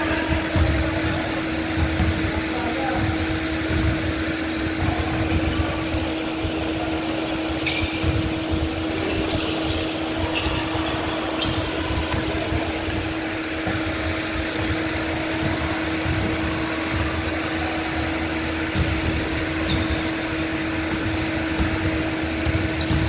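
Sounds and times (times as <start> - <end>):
sneakers squeaking on hardwood floor: 0.0 - 23.0
steady mechanical hum: 0.0 - 23.0.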